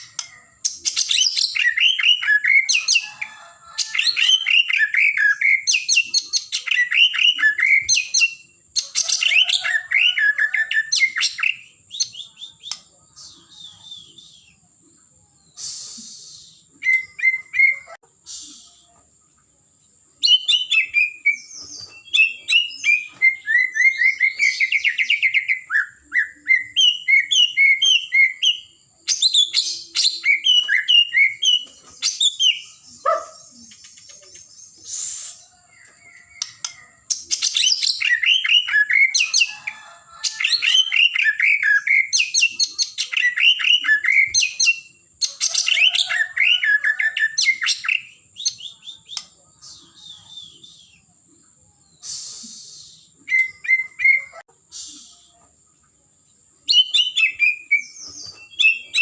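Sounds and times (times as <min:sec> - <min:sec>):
songbird singing trills: 0:00.0 - 0:59.0.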